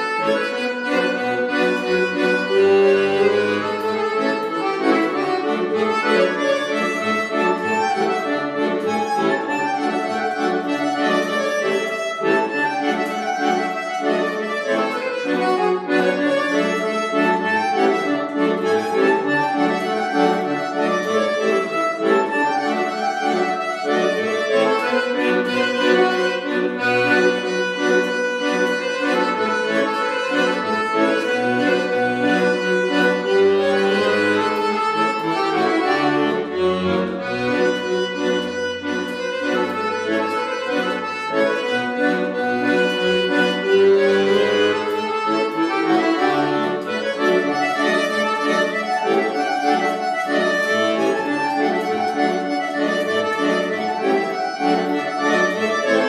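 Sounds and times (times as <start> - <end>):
accordion tune: 0.0 - 56.0.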